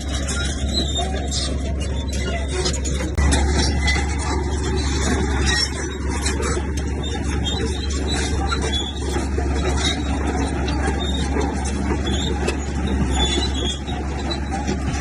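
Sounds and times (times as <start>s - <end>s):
heavy machinery diesel drone: 0.0s - 15.0s.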